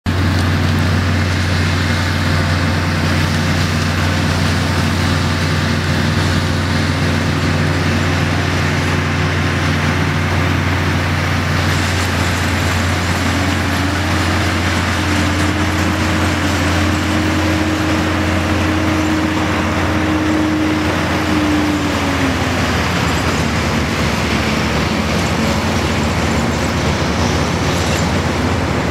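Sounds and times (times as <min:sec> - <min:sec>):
combine harvester engine hum: 0:00.0 - 0:28.9
high mechanical whine: 0:00.1 - 0:28.9.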